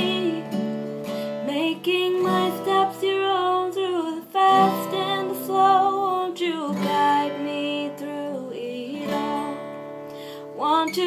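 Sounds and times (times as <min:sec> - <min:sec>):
strummed acoustic guitar: 0:00.0 - 0:11.0
woman singing: 0:00.0 - 0:11.0.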